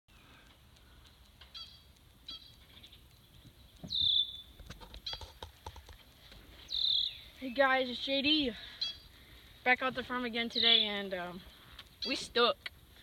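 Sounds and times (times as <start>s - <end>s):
birds calling: 0.1s - 9.6s, 10.2s - 12.5s
faint clicks: 0.1s - 13.0s.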